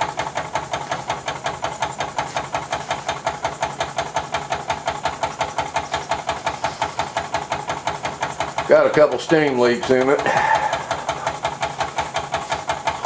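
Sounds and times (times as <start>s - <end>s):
model steam engine chuffing: 0.0s - 13.0s.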